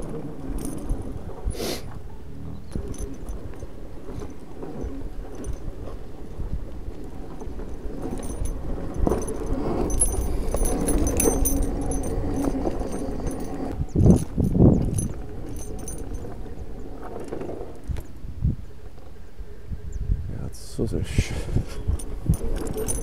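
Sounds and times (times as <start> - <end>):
motorcycle rattling over bumps: 0.0 - 19.0, 21.8 - 23.0.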